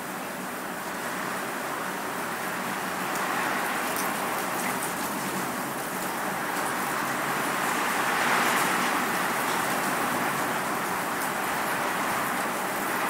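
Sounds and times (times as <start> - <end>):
rain: 0.0 - 13.0
wind: 0.0 - 13.0.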